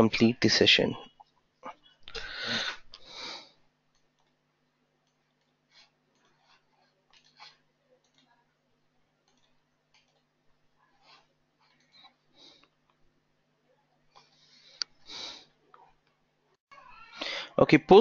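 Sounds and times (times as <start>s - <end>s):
faint low hum: 0.0s - 17.8s.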